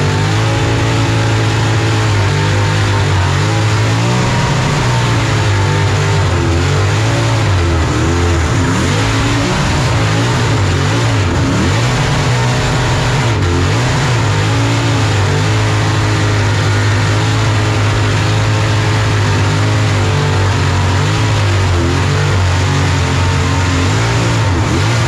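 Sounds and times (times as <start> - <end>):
car engine revving hard: 0.0 - 25.0.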